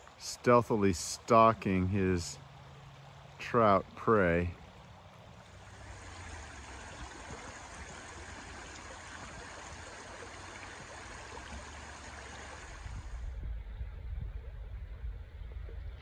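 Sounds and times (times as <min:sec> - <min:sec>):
stream babbling over gravel: 0:00.0 - 0:13.3.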